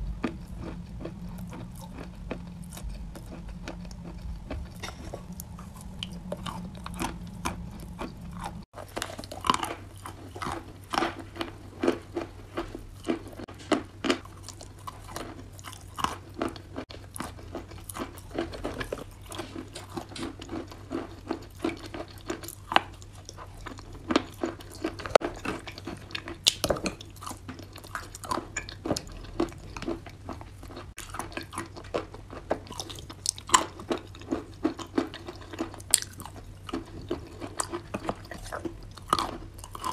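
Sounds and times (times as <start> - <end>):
faint low hum: 0.0 - 39.9
chewing sharp crunches: 0.1 - 39.9.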